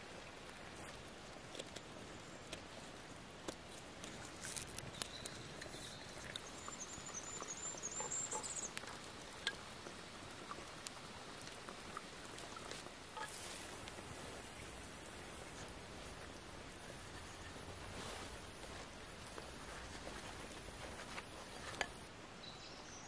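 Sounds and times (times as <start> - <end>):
campfire crackling and popping: 0.0 - 22.1
faint hiss: 2.3 - 23.0.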